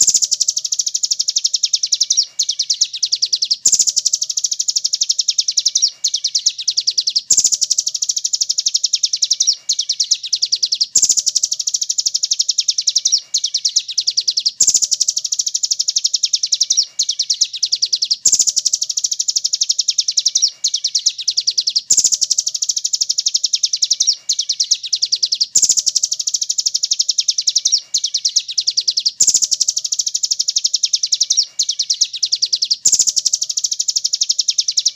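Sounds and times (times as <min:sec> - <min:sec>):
high-pitched bird trill: 0:00.0 - 0:34.9.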